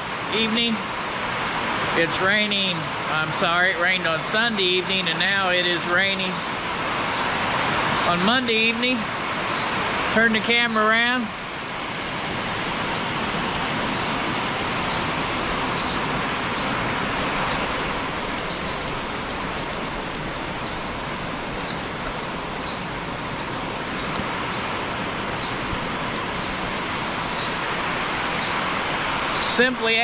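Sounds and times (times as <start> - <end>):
heavy rain drumming on a roof: 0.0 - 30.0.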